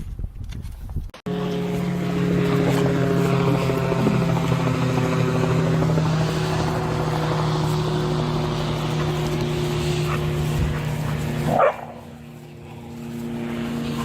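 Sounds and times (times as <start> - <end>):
steady engine drone: 1.2 - 14.0.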